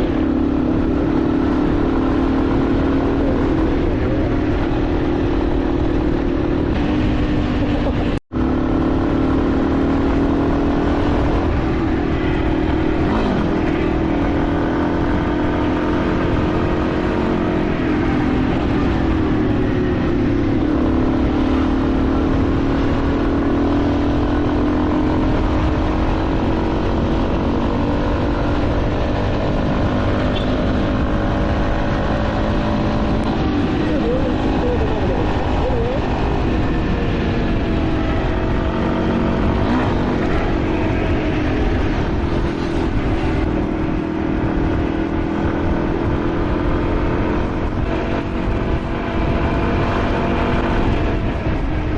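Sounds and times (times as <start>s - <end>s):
motorcycle engine running: 0.0s - 51.9s
wind noise on microphone: 0.0s - 51.9s.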